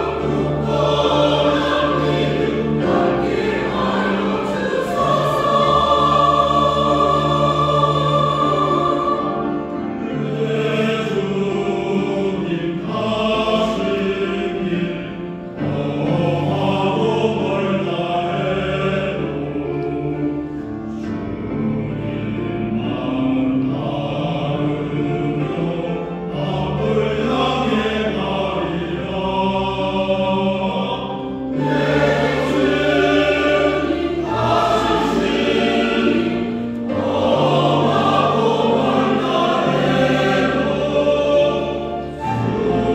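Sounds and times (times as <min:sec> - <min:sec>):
group singing in unison: 0:00.0 - 0:42.9
keyboard and bass accompaniment: 0:00.0 - 0:42.9.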